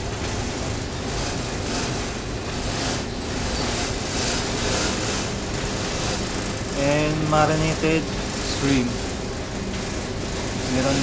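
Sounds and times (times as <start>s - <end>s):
ship machinery hum and hiss: 0.0s - 11.0s.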